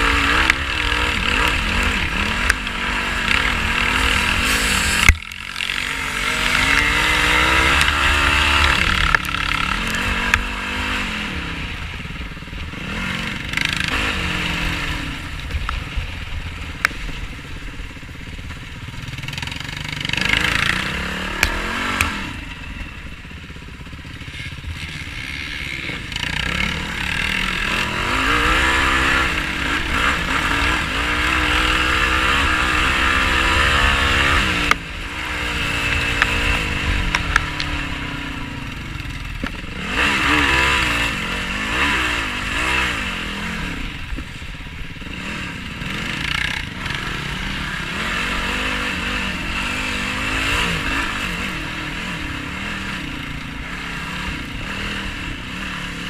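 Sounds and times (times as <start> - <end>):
quad engine revving: 0.0 - 15.7, 19.0 - 22.6, 23.8 - 56.0.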